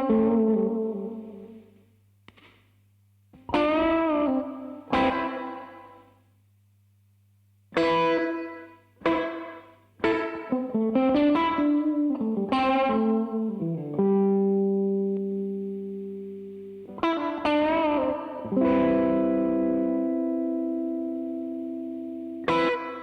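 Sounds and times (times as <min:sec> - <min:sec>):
electric guitar with reverb: 0:00.0 - 0:02.6, 0:03.4 - 0:06.2, 0:07.7 - 0:23.0.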